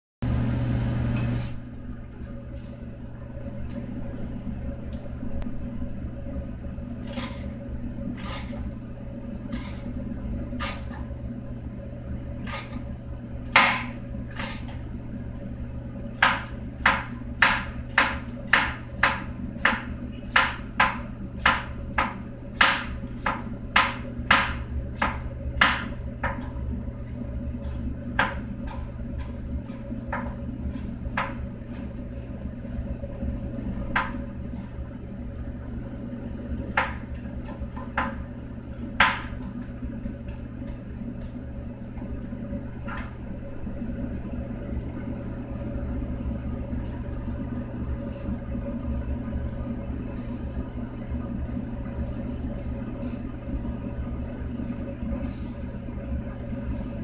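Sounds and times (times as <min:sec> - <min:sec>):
steady low hum: 0:00.2 - 0:57.0.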